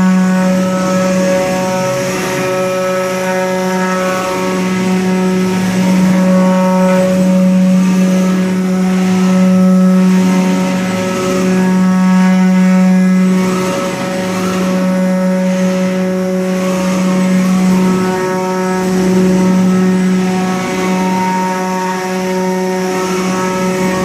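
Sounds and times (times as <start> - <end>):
milling machine spindle tone: 0.0 - 24.0.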